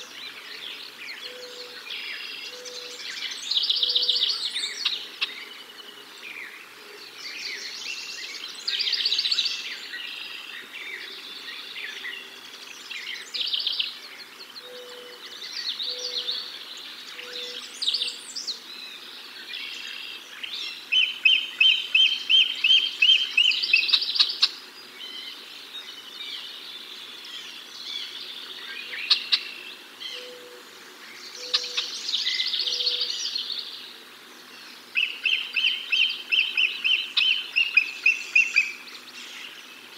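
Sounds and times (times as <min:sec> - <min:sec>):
wild birds singing and calling: 0:00.0 - 0:39.9.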